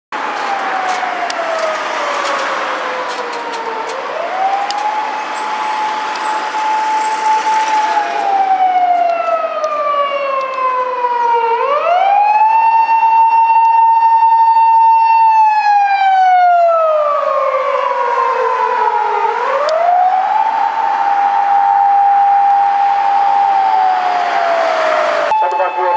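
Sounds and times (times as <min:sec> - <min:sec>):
police car siren wailing: 0:00.2 - 0:25.9.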